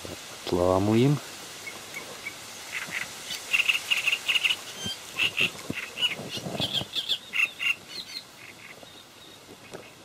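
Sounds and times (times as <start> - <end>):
bird chirping: 1.6 - 10.0.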